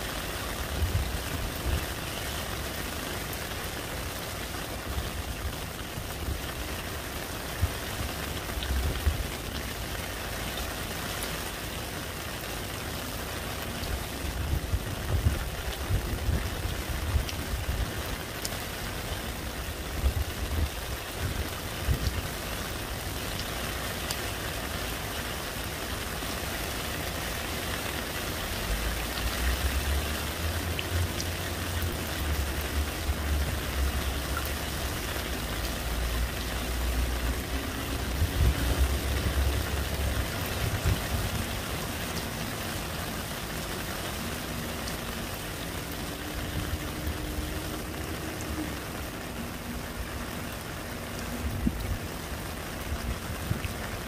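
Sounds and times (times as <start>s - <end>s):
rain splashing into puddle: 0.0s - 54.0s.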